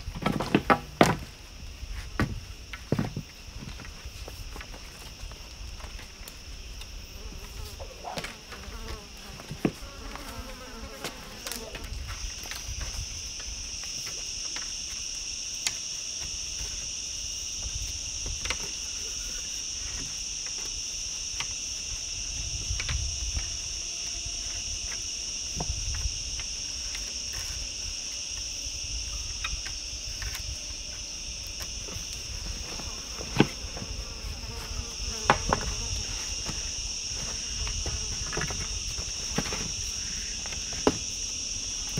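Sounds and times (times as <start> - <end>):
insect chorus drone: 0.0 - 41.9.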